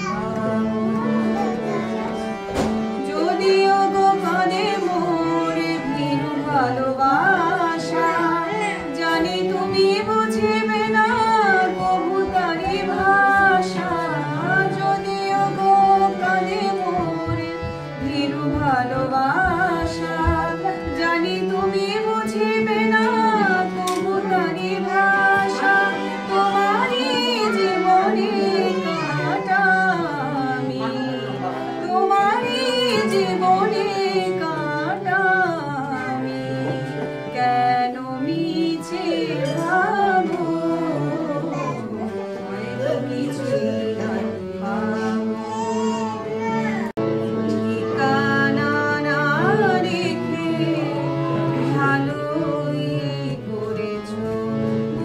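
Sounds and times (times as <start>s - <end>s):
woman singing: 0.0s - 46.4s, 47.0s - 55.0s
harmonium notes: 0.0s - 55.0s.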